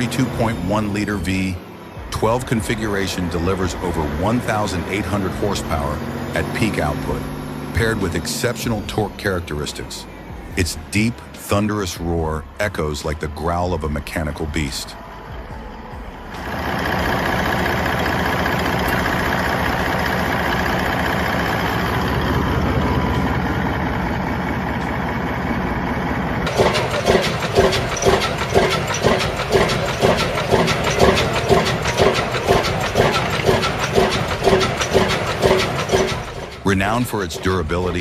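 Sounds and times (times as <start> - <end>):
diesel engine running: 0.0 - 38.0
engine with slow even beat: 0.0 - 38.0.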